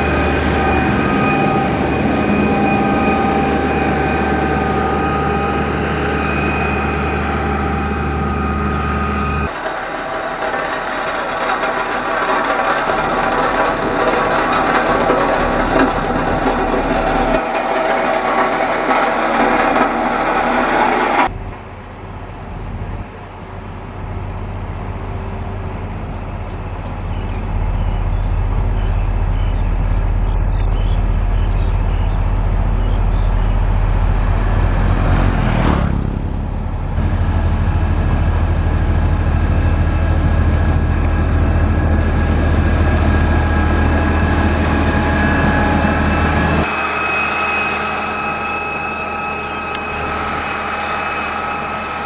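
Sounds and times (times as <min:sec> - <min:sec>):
heavy diesel engines running: 0:00.0 - 0:52.0.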